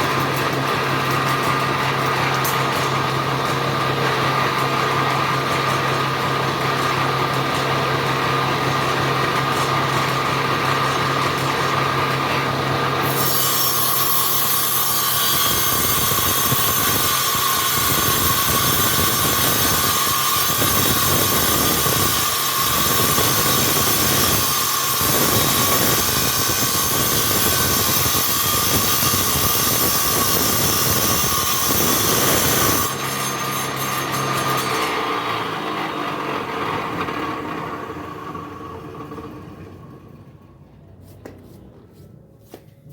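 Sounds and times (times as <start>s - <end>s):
power tool cutting wood: 0.0s - 40.3s.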